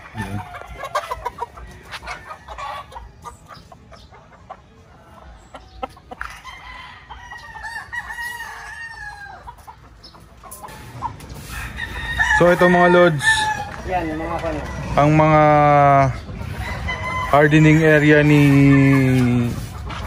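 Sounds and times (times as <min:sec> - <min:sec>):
roosters crowing: 0:00.0 - 0:03.8, 0:04.8 - 0:20.0
roosters clucking: 0:00.0 - 0:20.0.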